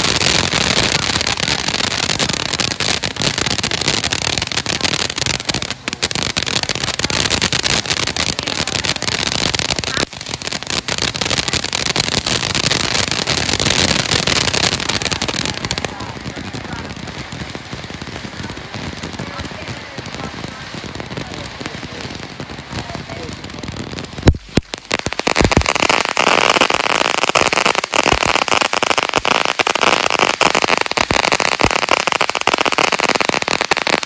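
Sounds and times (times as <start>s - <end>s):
firework fountain hissing and crackling: 0.0s - 34.0s.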